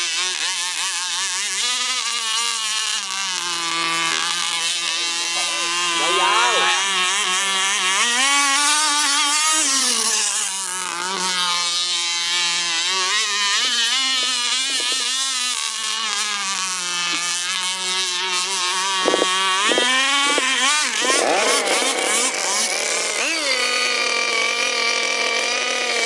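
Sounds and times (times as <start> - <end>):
boat engine running: 0.3 - 26.0.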